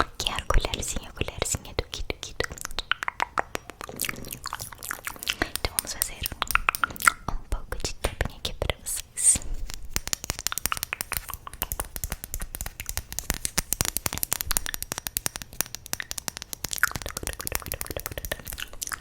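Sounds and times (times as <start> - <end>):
mouth clicks and pops: 0.0 - 19.0.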